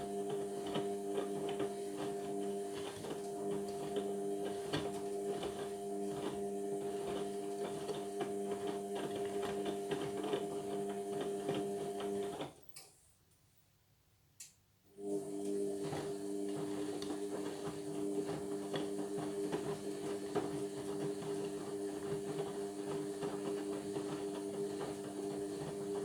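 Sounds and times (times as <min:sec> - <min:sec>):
washing machine motor whine: 0:00.0 - 0:12.5, 0:15.0 - 0:26.0.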